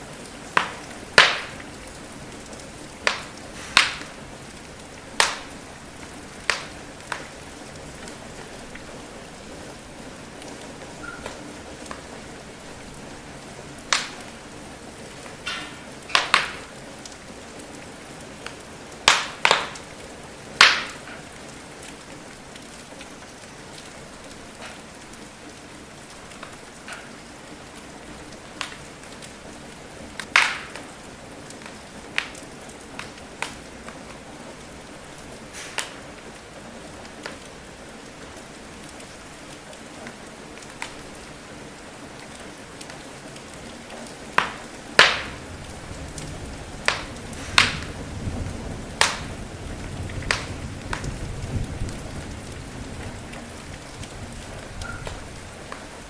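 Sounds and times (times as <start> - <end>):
rain hiss: 0.0 - 56.0
wood fire crackling: 0.0 - 56.0.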